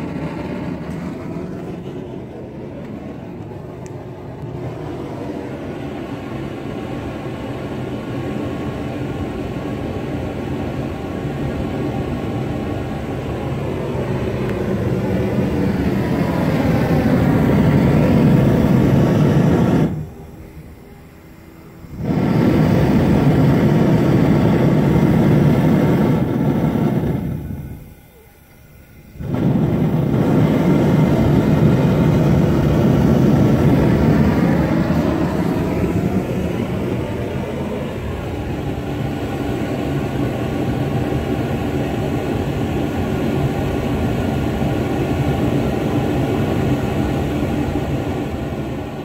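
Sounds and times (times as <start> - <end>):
gas burner flame rushing: 0.0 - 49.0.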